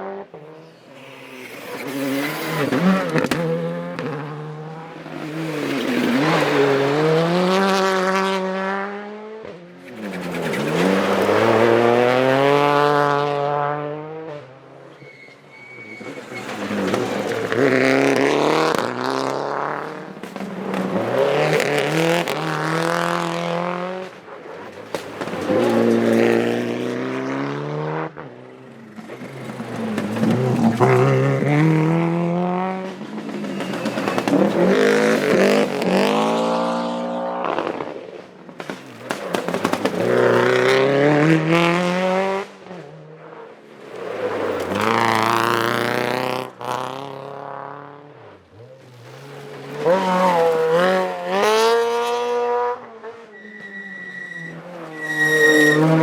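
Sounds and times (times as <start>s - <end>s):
rally car engines accelerating: 0.0s - 56.0s.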